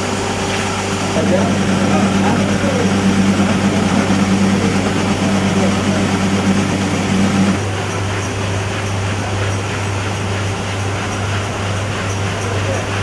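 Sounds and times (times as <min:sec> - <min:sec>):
machinery hum and whirring hiss: 0:00.0 - 0:13.0.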